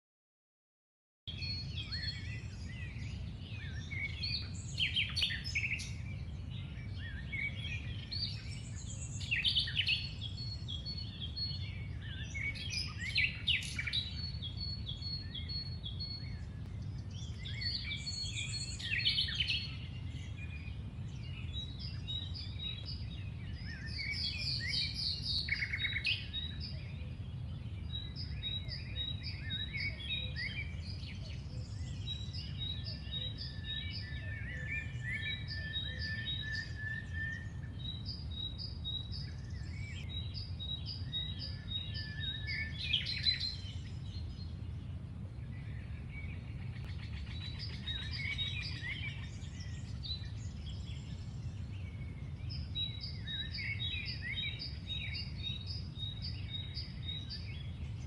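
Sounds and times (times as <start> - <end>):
birds chirping and singing: 1.3 - 58.0.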